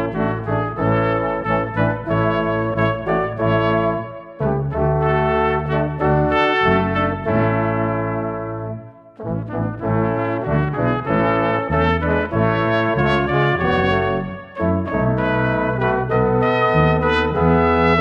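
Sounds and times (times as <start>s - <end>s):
brass ensemble playing a hymn: 0.0s - 18.0s.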